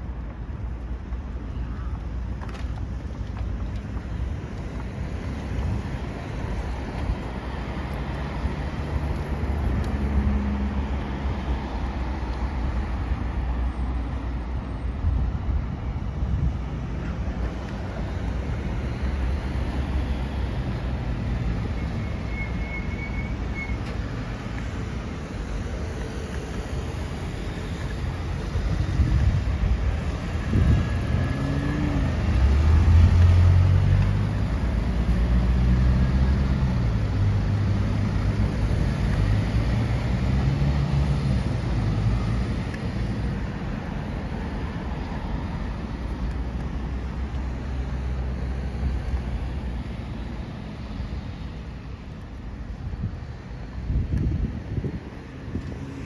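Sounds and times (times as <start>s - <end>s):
rumble of passing cars: 0.0s - 56.0s.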